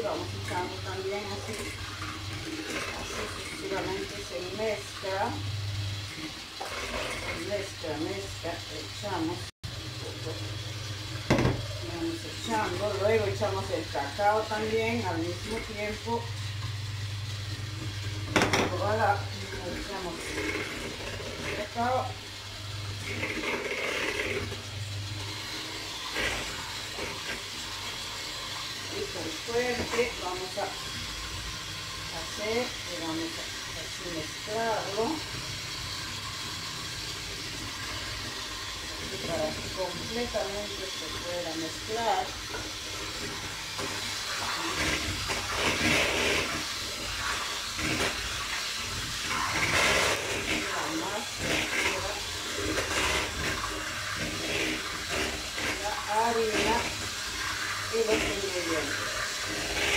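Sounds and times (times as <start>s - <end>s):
electric hand mixer running: 0.0s - 59.9s.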